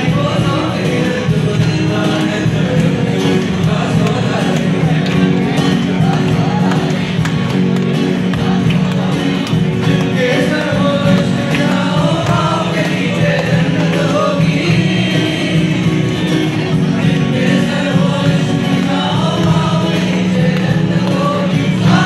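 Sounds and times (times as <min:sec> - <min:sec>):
acoustic guitar: 0:00.0 - 0:22.0
group singing: 0:00.0 - 0:22.0.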